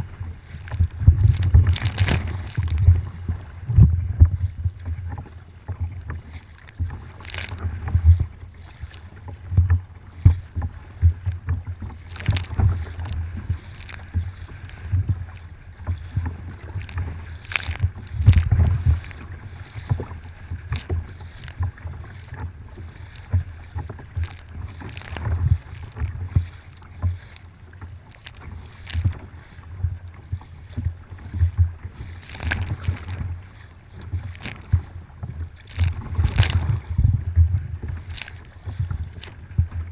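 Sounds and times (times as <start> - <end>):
water slapping against kayak hull: 0.0 - 39.9
wind buffeting microphone: 0.0 - 39.9.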